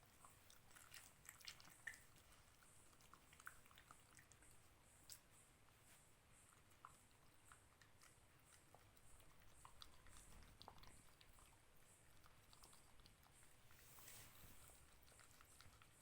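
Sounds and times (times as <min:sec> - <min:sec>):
puppy chewing dog food: 0:00.0 - 0:16.0.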